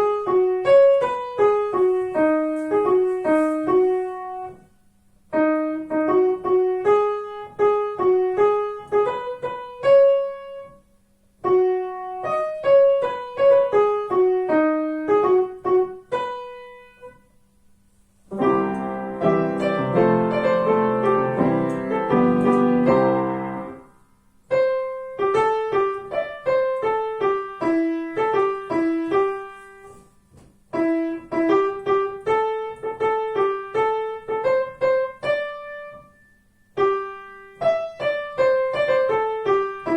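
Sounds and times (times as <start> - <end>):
piano chords: 0.0 - 4.7, 5.3 - 17.3, 18.2 - 39.9
piano melody: 0.0 - 4.7, 5.3 - 17.2, 18.2 - 30.1, 30.7 - 39.9.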